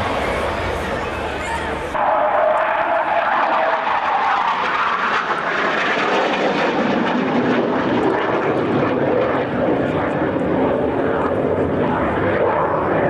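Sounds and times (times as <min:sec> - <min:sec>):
high jet whine: 0:00.0 - 0:13.0
jet aircraft roar overhead: 0:00.0 - 0:13.0.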